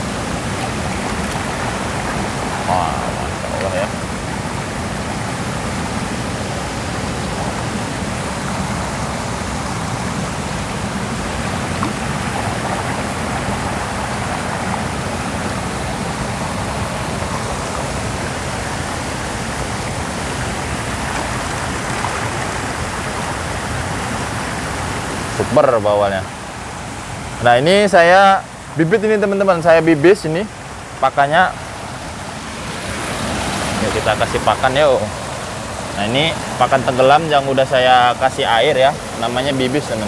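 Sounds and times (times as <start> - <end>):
rushing water: 0.0 - 40.0.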